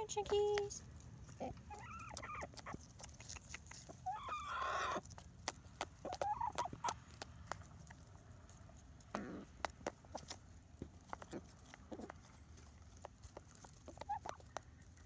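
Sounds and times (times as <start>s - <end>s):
chickens clucking: 1.1s - 15.0s.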